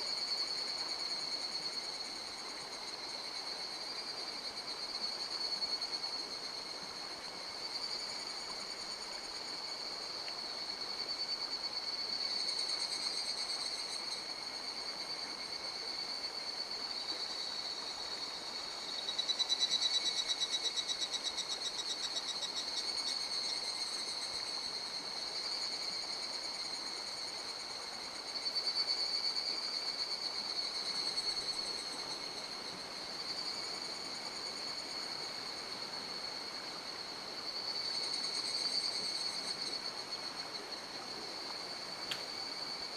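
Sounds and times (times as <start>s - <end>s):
insects or frogs calling: 0.0s - 42.9s.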